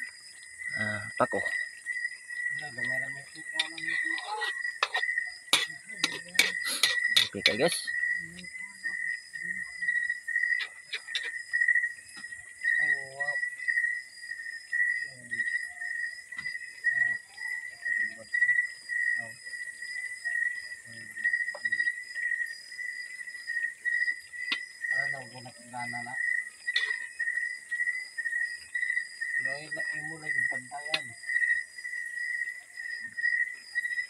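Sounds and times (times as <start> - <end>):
crickets trilling: 0.0 - 34.0
faint high insect tone: 0.0 - 34.0.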